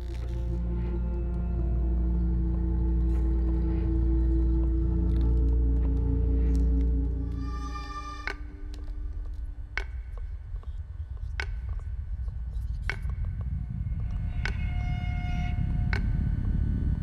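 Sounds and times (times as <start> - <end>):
low rumbling drone: 0.0 - 11.1, 13.2 - 17.0.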